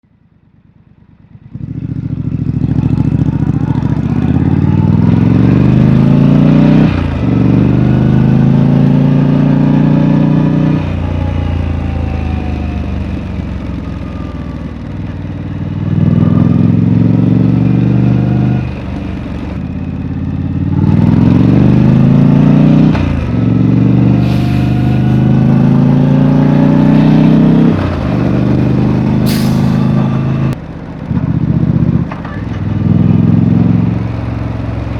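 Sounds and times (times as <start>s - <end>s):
motorcycle engine accelerating: 0.5s - 34.9s.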